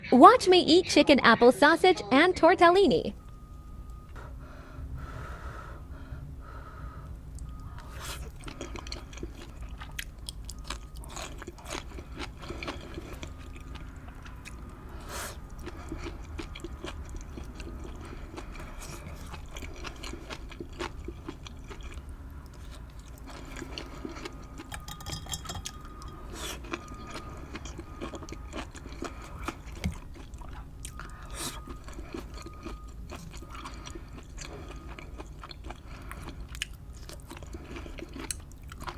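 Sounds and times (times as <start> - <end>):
close chewing and biting: 5.8 - 38.9.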